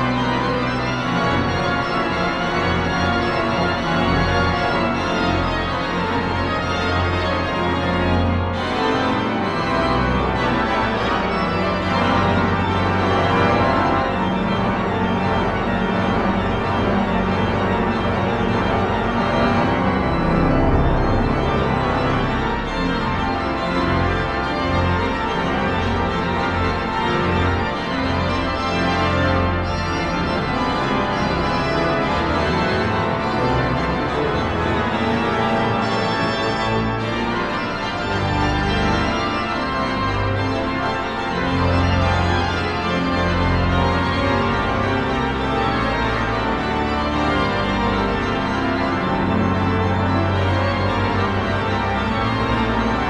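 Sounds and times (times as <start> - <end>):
pipe organ playing: 0.0 - 53.0.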